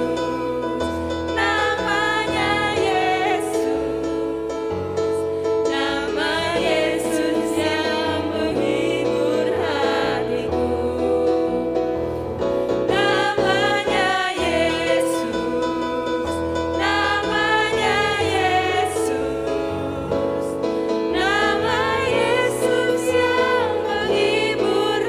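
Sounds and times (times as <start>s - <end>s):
voices singing: 0.0s - 5.0s, 5.6s - 11.8s, 12.9s - 25.0s
instrumental backing with bass: 0.0s - 25.0s.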